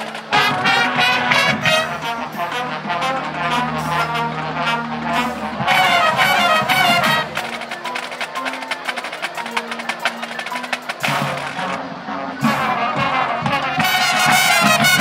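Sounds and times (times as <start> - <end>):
marching band brass: 0.0 - 15.0
snare drumline rapid strokes: 0.0 - 15.0.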